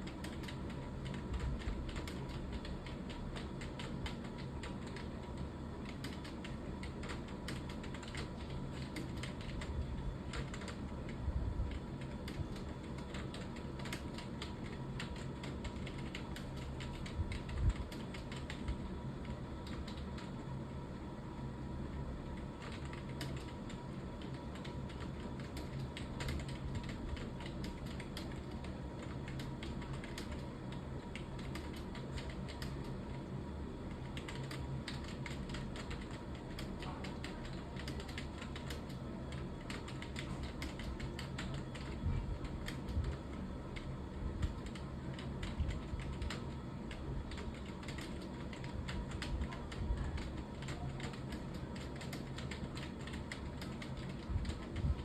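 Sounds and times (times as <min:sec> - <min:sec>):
fast typing on keyboard: 0:00.0 - 0:20.4, 0:22.3 - 0:55.0
steady low hum: 0:00.0 - 0:55.0.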